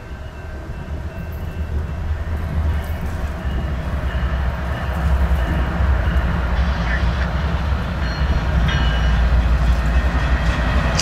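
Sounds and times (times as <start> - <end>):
diesel locomotive rumble: 0.0 - 11.0.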